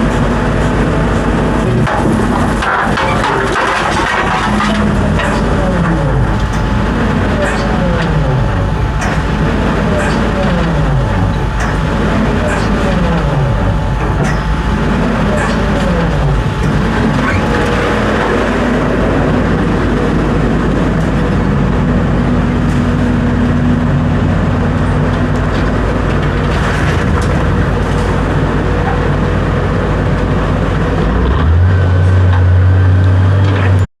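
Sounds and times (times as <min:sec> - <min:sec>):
vehicle engine running: 0:00.0 - 0:33.8
road noise: 0:00.0 - 0:33.9.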